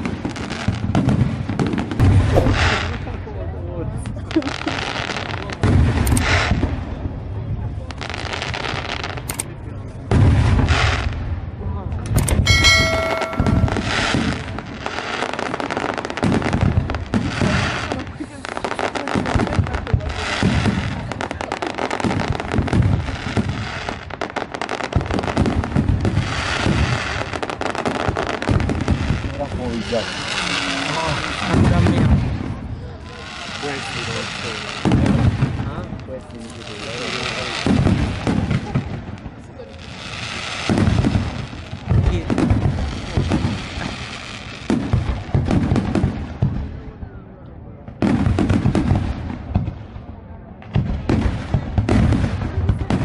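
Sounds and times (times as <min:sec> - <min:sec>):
fireworks crackling pops: 0:00.0 - 0:11.3, 0:12.0 - 0:46.9, 0:50.6 - 0:53.0
fireworks low booms: 0:00.0 - 0:18.2, 0:19.2 - 0:32.9, 0:33.8 - 0:53.0.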